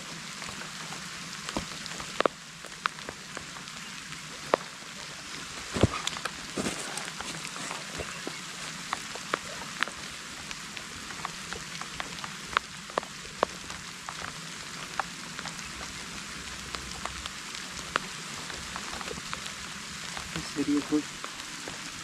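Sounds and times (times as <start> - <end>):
heavy rain falling: 0.0 - 22.0
raindrops tapping close by: 0.0 - 22.0.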